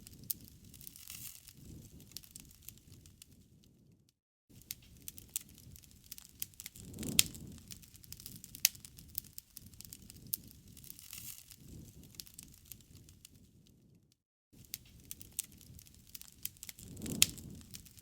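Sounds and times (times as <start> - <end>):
burning wood popping: 0.0 - 3.7, 4.6 - 13.9, 14.6 - 18.0
campfire crackling: 0.0 - 4.0, 4.6 - 14.0, 14.6 - 18.0
low rumble of flame: 0.0 - 18.0.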